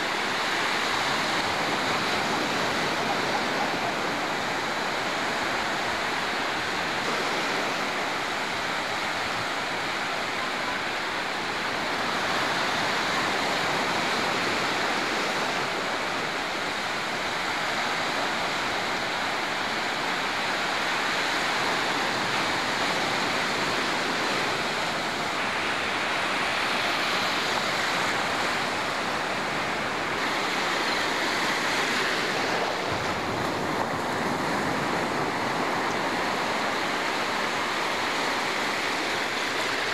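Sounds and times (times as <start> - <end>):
sea surf breaking on shore: 0.0 - 39.9.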